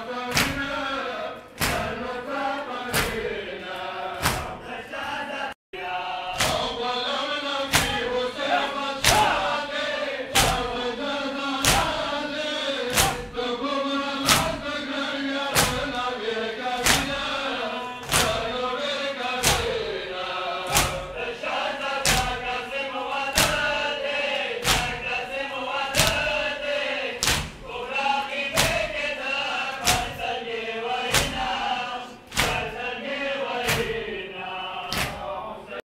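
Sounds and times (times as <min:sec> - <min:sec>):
men chanting in unison: 0:00.0 - 0:35.8
men beating their chests: 0:00.2 - 0:00.9, 0:01.5 - 0:03.4, 0:04.0 - 0:04.6, 0:06.3 - 0:06.9, 0:07.5 - 0:20.0, 0:20.6 - 0:34.1.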